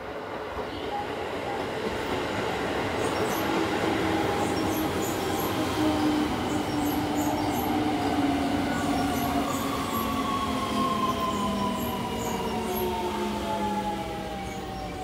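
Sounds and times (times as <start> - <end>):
rumble of wheels on rails: 0.0 - 15.0.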